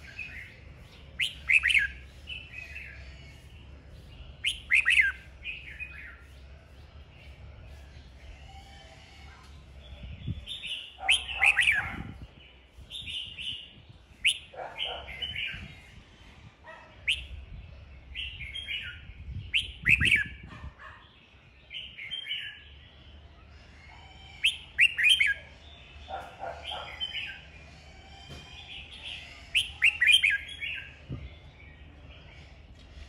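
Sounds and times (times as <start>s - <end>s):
bird singing warbled phrases: 0.0s - 32.8s.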